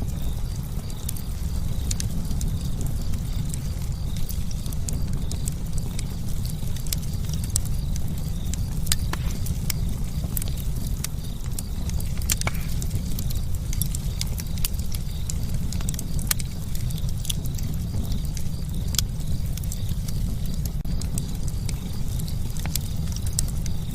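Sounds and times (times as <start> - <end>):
campfire crackling: 0.0 - 23.9
low rumble of flames: 0.0 - 23.9.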